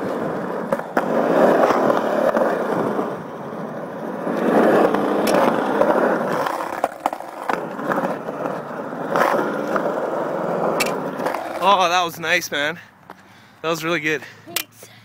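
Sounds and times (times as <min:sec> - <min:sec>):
wheels rolling on concrete: 0:00.0 - 0:14.3.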